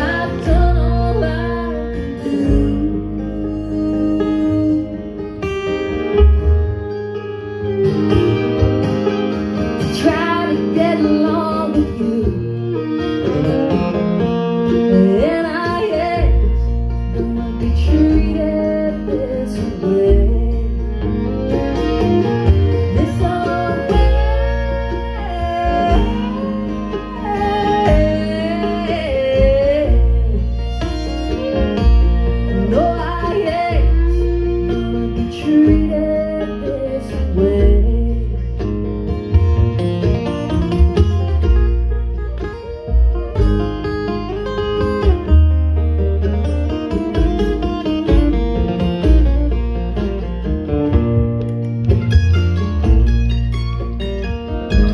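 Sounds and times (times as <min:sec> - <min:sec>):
acoustic guitar: 0:00.0 - 0:54.9
bending lead melody: 0:00.0 - 0:54.9
bluegrass string band playing: 0:00.0 - 0:54.9
upright bass: 0:00.0 - 0:54.9.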